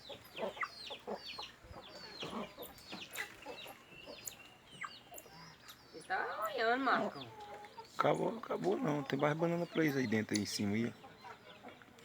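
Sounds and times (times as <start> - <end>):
low bird clucking: 0.0 - 11.9.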